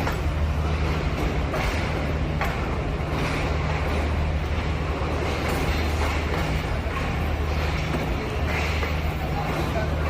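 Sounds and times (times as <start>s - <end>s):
passenger train rumbling on track: 0.0s - 10.0s.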